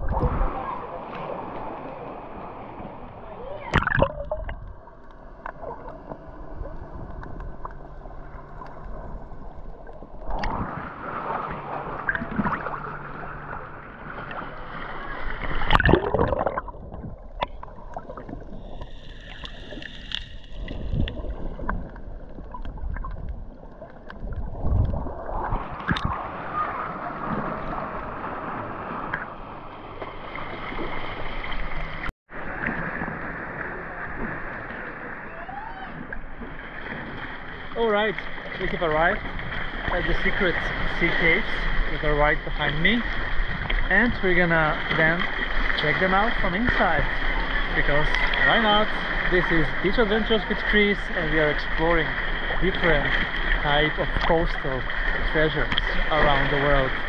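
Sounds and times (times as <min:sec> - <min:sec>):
underwater sloshing and gurgling: 0:00.0 - 0:57.0.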